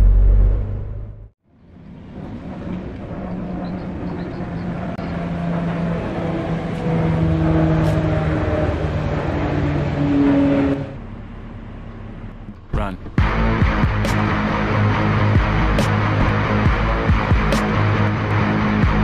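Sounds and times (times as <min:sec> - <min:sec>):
car engine approaching: 0:00.0 - 0:19.0.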